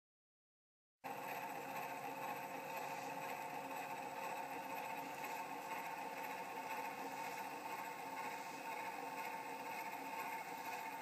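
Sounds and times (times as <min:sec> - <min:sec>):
phonograph motor whirring: 0:01.1 - 0:11.0.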